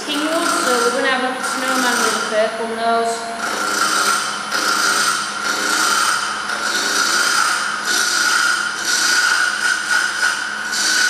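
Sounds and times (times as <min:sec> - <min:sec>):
turning tool scraping wood: 0:00.0 - 0:02.4, 0:03.4 - 0:11.0
wood lathe whining: 0:00.0 - 0:11.0.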